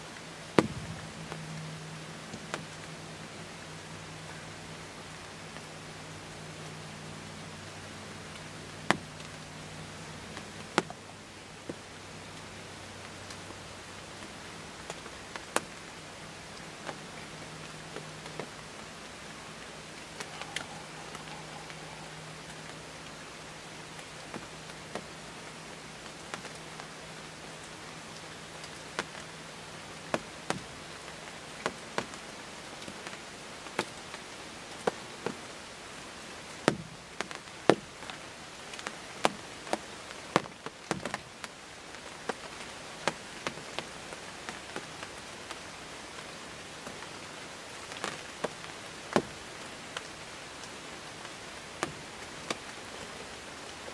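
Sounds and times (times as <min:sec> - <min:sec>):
raindrops tapping: 0:00.0 - 0:04.5, 0:07.6 - 0:35.5, 0:36.4 - 0:53.9
light rain hiss: 0:00.0 - 0:53.9.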